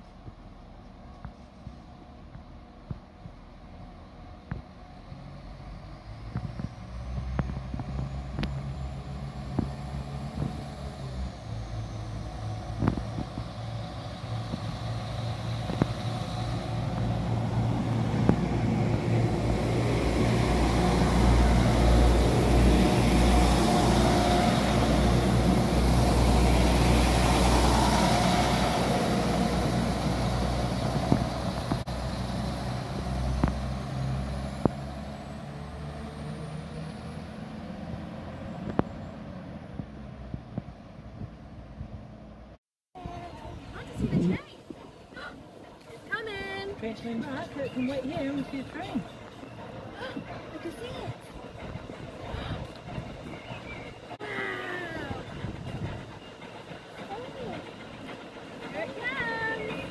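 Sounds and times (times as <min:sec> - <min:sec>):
diesel engine rumble: 0:00.0 - 0:59.9
rushing train wheels: 0:00.0 - 0:59.9.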